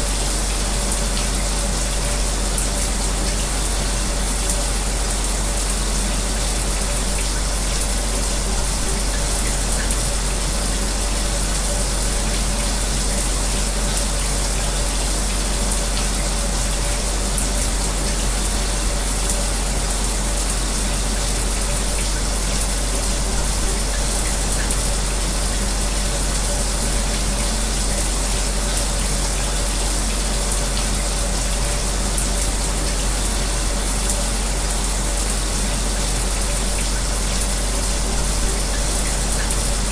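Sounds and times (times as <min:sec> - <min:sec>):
shower water spraying: 0:00.0 - 0:39.9.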